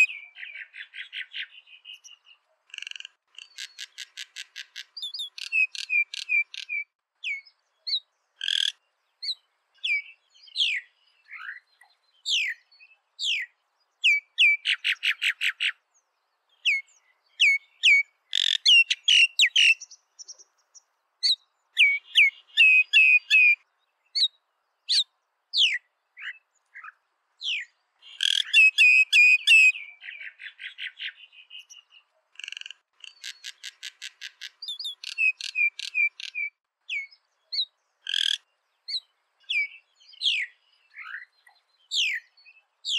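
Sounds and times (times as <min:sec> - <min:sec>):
myna bird calling: 0:00.0 - 0:42.9.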